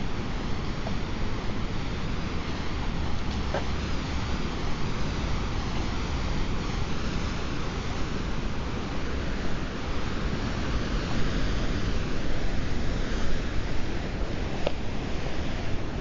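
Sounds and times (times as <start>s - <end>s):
ocean surf washing in: 0.0s - 16.0s.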